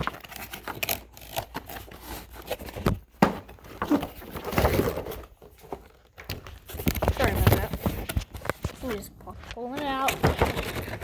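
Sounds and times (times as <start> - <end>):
toy packaging rustling and scraping: 0.0 - 11.0.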